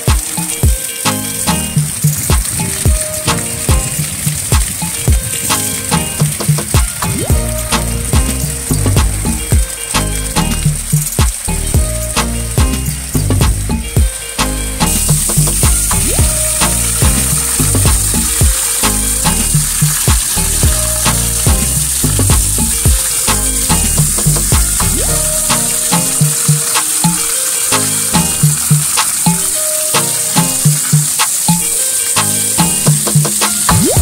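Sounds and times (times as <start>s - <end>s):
background music with beat: 0.0s - 34.0s
hose water spraying on leaves: 0.0s - 34.0s.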